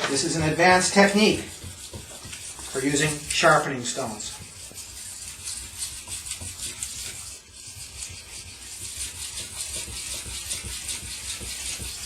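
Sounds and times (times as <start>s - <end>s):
knife scraping on a wet stone: 0.0s - 12.0s.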